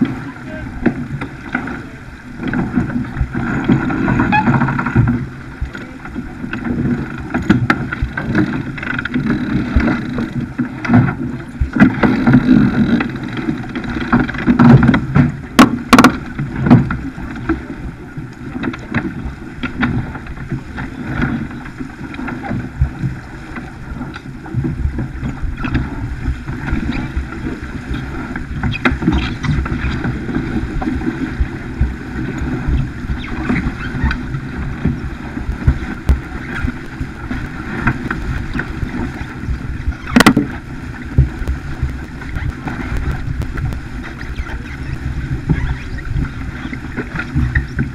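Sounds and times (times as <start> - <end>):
water rushing along a hull: 0.0 - 47.9
wind buffeting microphone: 0.0 - 47.9.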